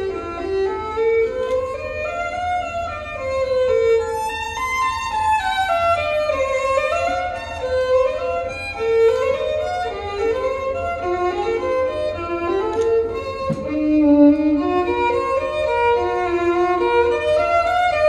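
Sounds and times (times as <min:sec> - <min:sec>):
solo violin melody: 0:00.0 - 0:18.0.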